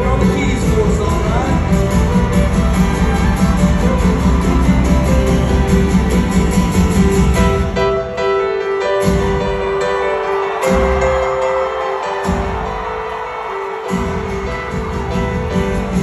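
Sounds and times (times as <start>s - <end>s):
live band playing: 0.0s - 16.0s.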